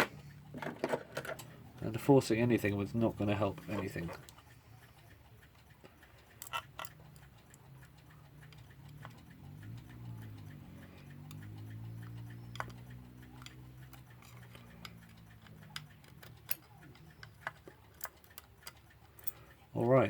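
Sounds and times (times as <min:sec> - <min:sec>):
small metal parts clicking: 0:00.0 - 0:01.8, 0:05.4 - 0:20.0.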